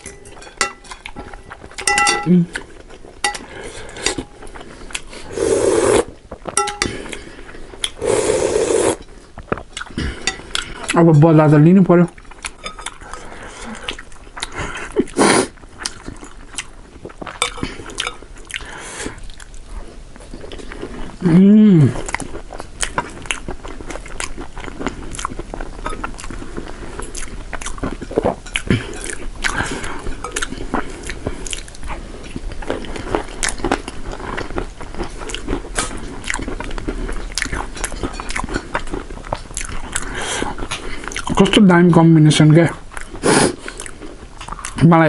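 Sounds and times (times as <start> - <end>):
person chewing crunchy food: 0.0 - 11.1, 12.1 - 41.8, 42.7 - 44.9.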